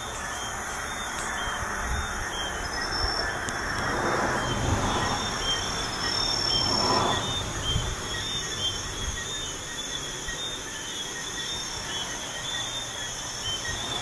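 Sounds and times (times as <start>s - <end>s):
crickets chirping: 0.0s - 14.0s
highway traffic rushing: 0.0s - 14.0s.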